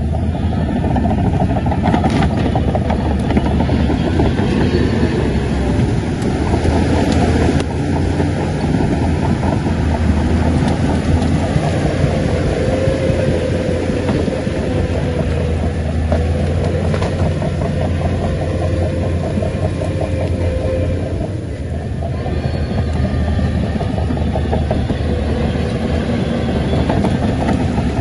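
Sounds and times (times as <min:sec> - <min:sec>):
bulldozer diesel engine running: 0:00.0 - 0:28.0
steel tracks clattering: 0:00.0 - 0:28.0.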